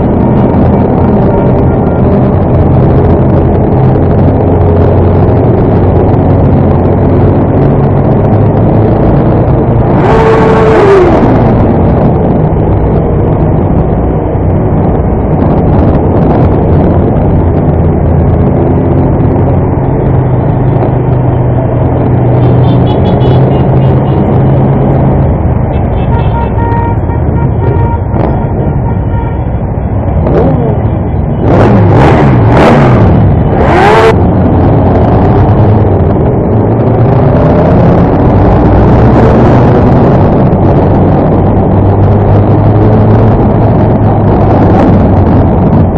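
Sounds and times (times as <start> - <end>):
other motorcycle engines: 0.0 - 45.9
rushing noise: 0.0 - 45.9.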